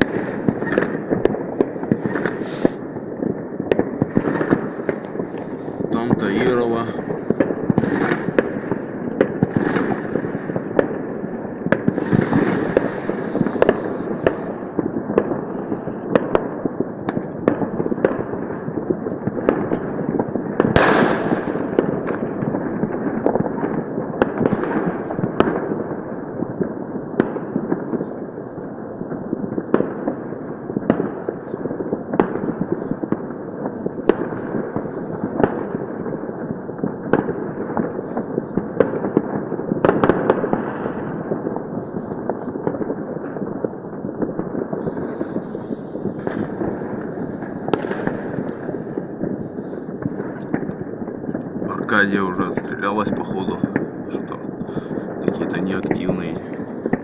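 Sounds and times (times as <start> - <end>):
distant fireworks and firecrackers: 0.0 - 57.0.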